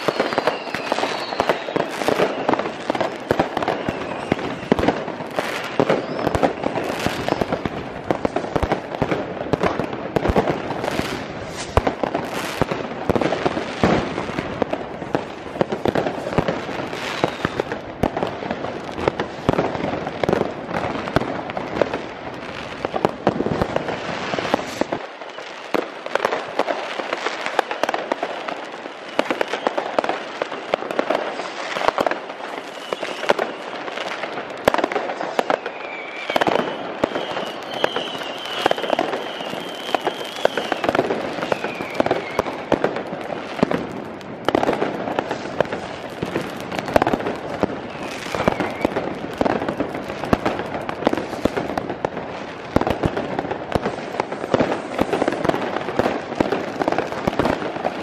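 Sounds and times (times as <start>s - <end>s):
fireworks bangs and bursts: 0.0s - 58.0s.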